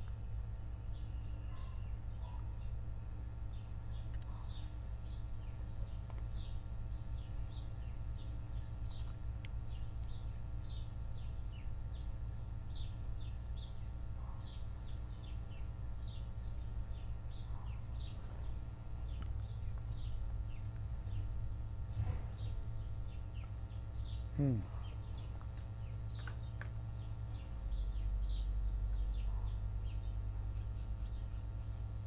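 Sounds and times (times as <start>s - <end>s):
small birds chirping: 0.0s - 32.0s
steady low rumble: 0.0s - 32.0s.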